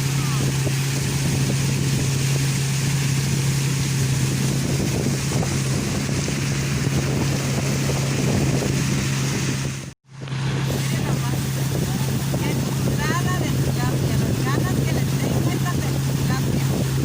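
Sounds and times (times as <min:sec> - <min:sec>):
boat motor running: 0:00.0 - 0:17.0
water rushing: 0:00.0 - 0:17.0
wind buffeting microphone: 0:00.0 - 0:17.0.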